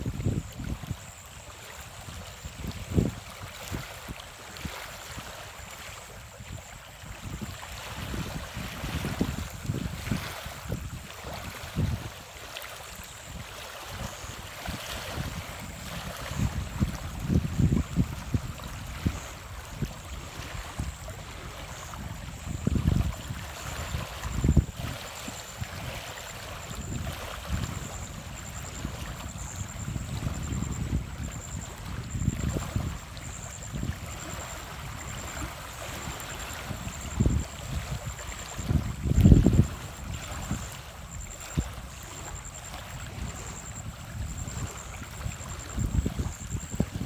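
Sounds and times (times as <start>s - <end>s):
wind buffeting microphone: 0.0s - 1.2s, 1.9s - 5.3s, 6.1s - 12.3s, 13.3s - 47.0s
small waves lapping on stony shore: 0.0s - 47.0s.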